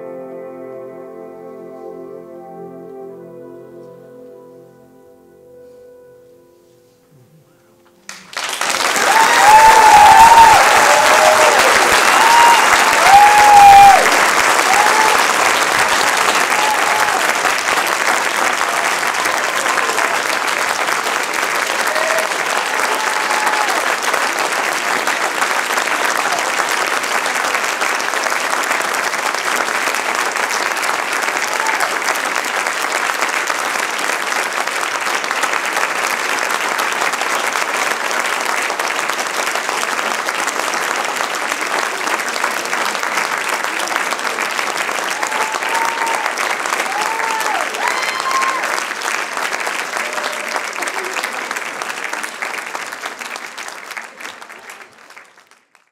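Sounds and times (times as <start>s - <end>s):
audience applauding: 8.1s - 55.9s.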